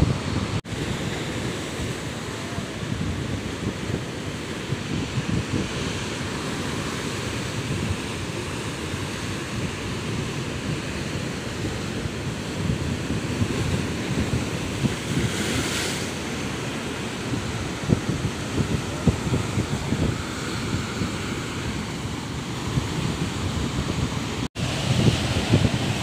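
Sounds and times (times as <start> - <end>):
wind buffeting microphone: 0.0 - 26.0
waves breaking over rocks: 0.7 - 26.0.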